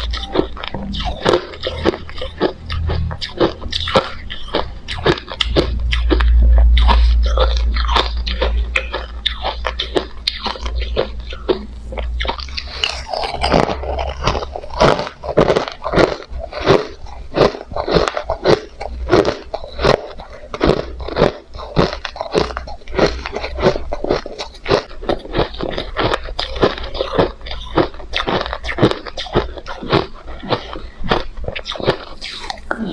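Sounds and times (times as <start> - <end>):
low rumble: 0.0 - 28.7
crushed ice being chewed: 0.0 - 32.9.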